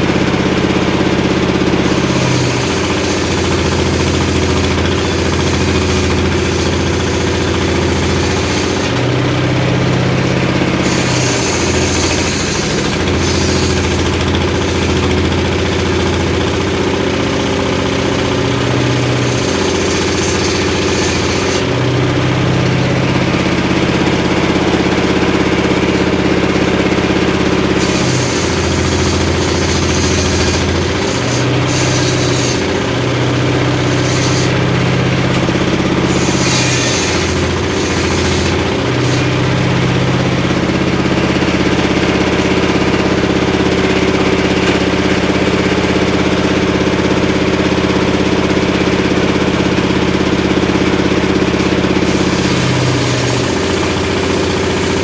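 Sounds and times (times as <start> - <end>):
saw blade cutting wood: 0.0 - 48.3, 49.1 - 55.0
sawmill engine running: 0.0 - 55.0.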